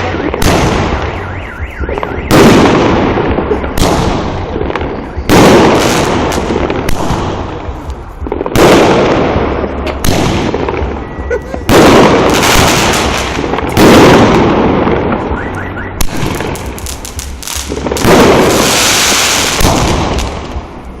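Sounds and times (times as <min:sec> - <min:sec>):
fireworks bangs: 0:00.0 - 0:20.8
fireworks crackle: 0:00.0 - 0:21.0.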